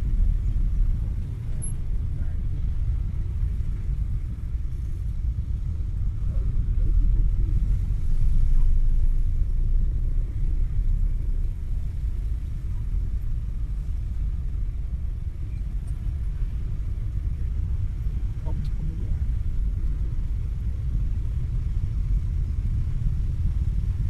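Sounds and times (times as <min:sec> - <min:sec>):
idling motorbike and car engines: 0:00.0 - 0:24.0.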